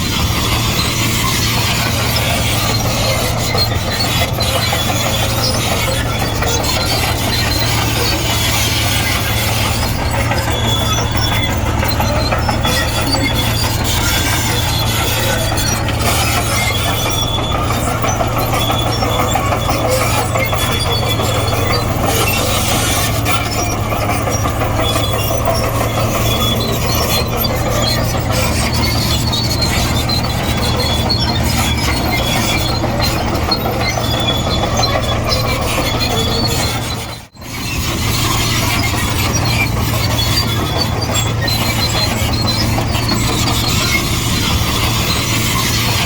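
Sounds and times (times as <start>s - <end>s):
bulldozer diesel engine running: 0.0s - 46.0s
high track squeals: 0.0s - 46.0s
steel tracks clanking: 0.0s - 46.0s.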